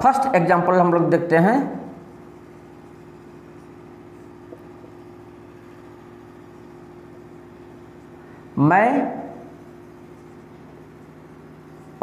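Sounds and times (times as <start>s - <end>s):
low mechanical room hum: 0.0s - 12.0s.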